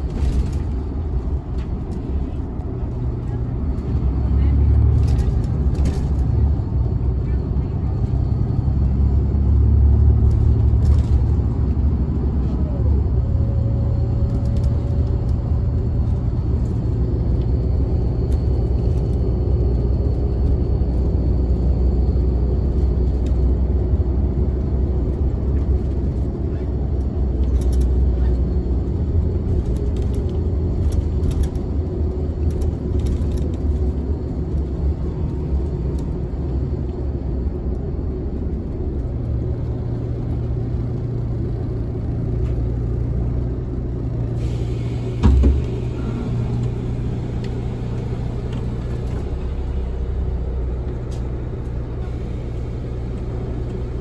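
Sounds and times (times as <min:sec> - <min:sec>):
bus engine and tyres rumbling: 0:00.0 - 0:54.0.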